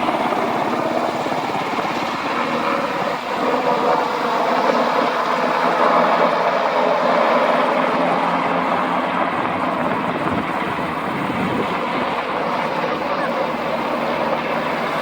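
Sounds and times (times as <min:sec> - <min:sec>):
helicopter rotor chop: 0:00.0 - 0:15.0
turbine drone: 0:00.0 - 0:15.0.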